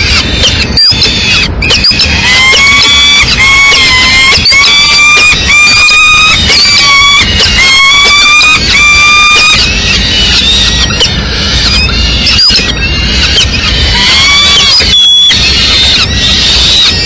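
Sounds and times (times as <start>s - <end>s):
falcon chicks squealing calls: 0.0s - 17.0s.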